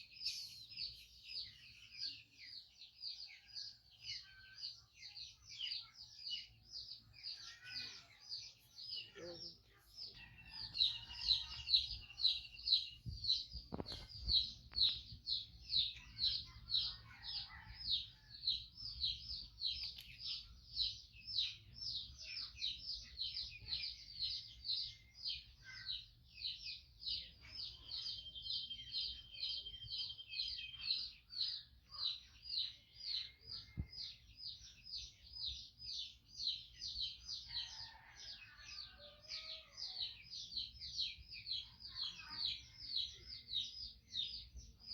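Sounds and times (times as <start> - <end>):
bird chirping: 0.0 - 44.9.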